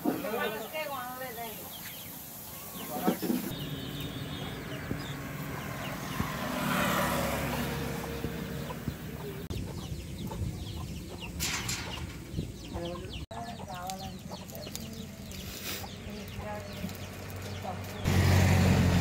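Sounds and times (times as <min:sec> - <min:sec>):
hens clucking: 0:00.0 - 0:16.9.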